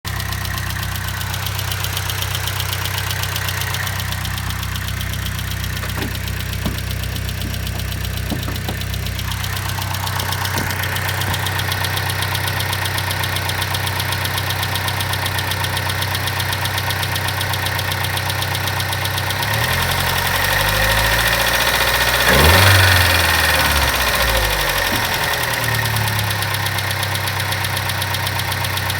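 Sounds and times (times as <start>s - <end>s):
car engine running: 0.1s - 28.9s
loud fast engine ticking: 0.1s - 28.9s.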